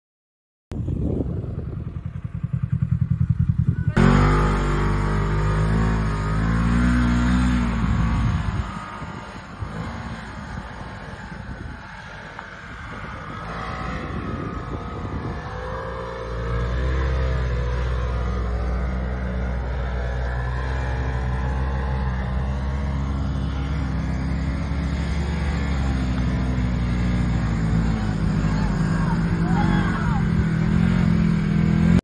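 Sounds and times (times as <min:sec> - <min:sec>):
buggy engine revving: 0:01.2 - 0:32.0.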